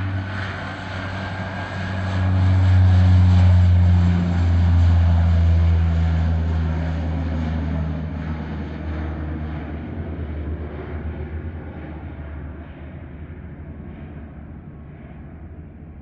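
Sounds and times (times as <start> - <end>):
propeller aircraft drone: 0.0 - 16.0.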